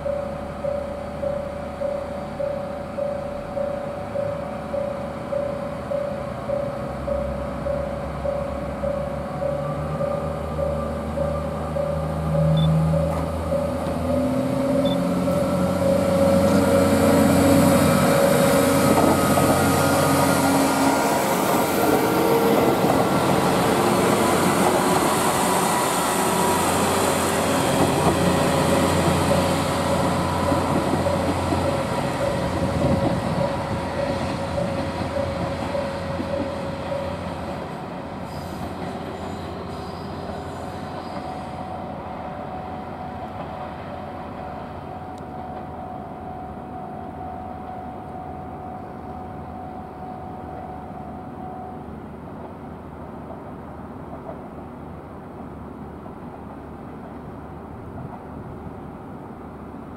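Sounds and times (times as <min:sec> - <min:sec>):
train wheels on rails: 0:00.0 - 0:49.2, 0:51.8 - 0:59.9
diesel railcar engine: 0:00.0 - 0:59.9.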